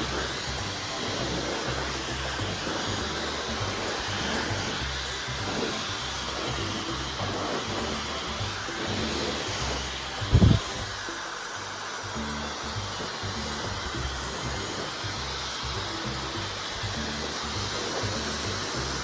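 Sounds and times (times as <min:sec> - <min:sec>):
background music with bass: 0:00.0 - 0:19.0
hair dryer blowing: 0:00.0 - 0:19.0.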